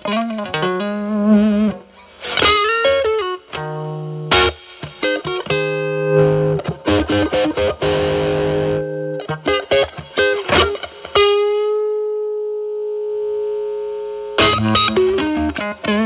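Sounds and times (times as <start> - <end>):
fuzz electric guitar: 0.0 - 16.0.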